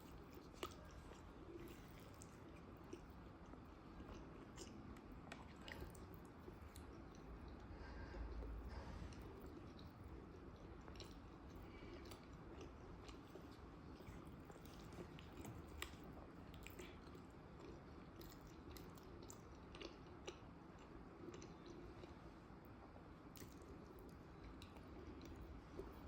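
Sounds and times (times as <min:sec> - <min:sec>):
chewing food: 0:00.0 - 0:26.0.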